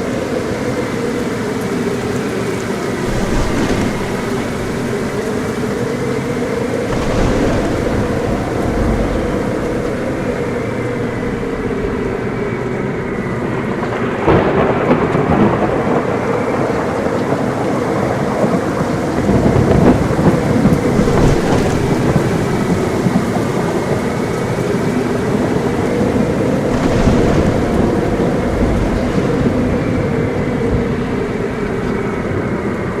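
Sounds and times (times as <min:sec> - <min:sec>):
heavy rain: 0:00.0 - 0:33.0
thunder rumbling: 0:00.0 - 0:33.0.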